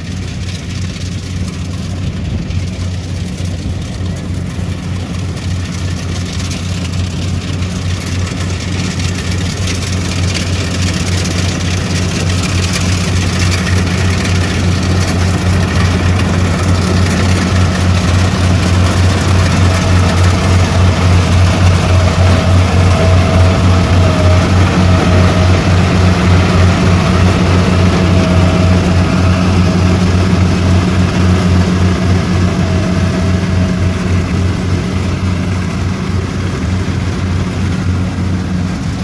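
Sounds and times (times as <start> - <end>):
harvester engine hum: 0.0 - 39.0.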